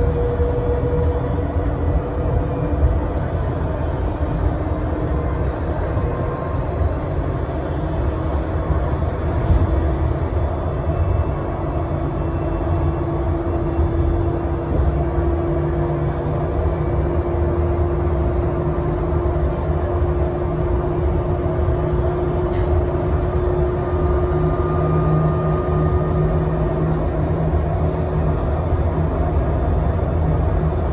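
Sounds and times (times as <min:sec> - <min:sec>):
thin whine: 0:00.0 - 0:30.8
bus cabin rumble: 0:00.0 - 0:30.9.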